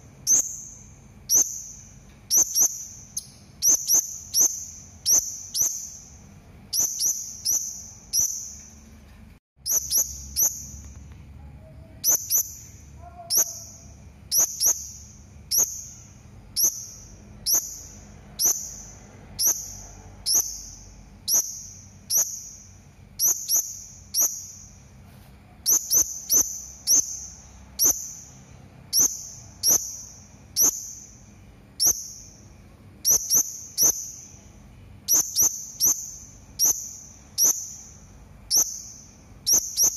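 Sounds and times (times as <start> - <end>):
parrot high-pitched chirps: 0.2 - 8.8, 9.6 - 24.8, 25.6 - 39.9.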